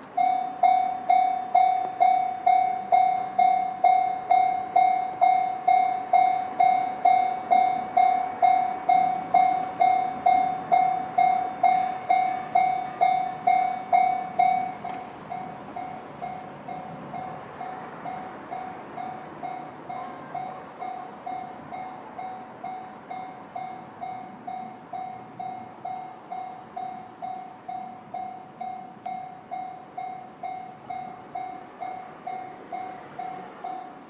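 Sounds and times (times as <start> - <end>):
level crossing warning bell: 0.0 - 34.0.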